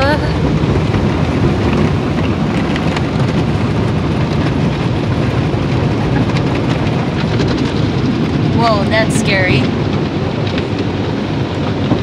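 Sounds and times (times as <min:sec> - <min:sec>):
automatic car wash: 0:00.0 - 0:12.0.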